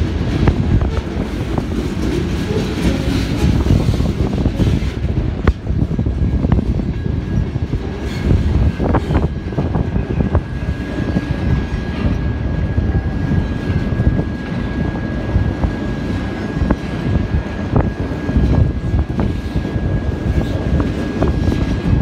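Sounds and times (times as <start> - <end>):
freight cars rumbling on rails: 0.0 - 22.0.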